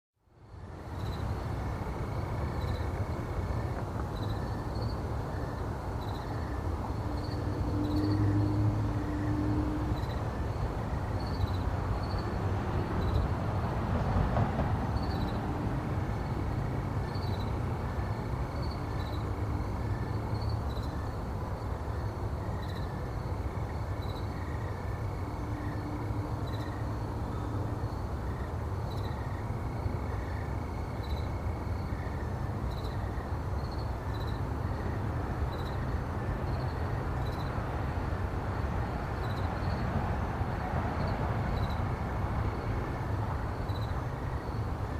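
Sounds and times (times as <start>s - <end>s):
car engine and tyre rumble: 0.3s - 44.9s
insects chirping: 0.4s - 44.9s.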